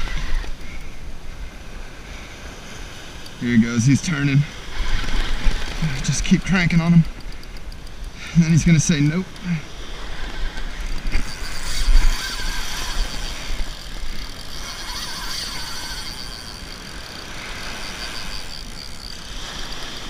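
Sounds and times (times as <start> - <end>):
fishing reel clicking whir: 0.0 - 1.2, 1.8 - 20.0.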